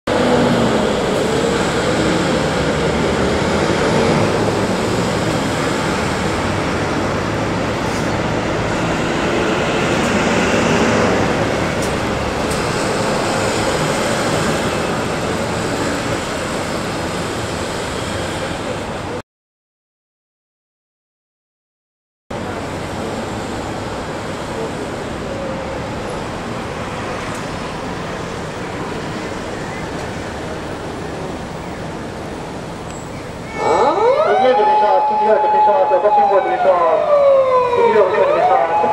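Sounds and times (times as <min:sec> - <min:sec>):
road traffic passing: 0:00.1 - 0:19.2, 0:22.3 - 0:38.9.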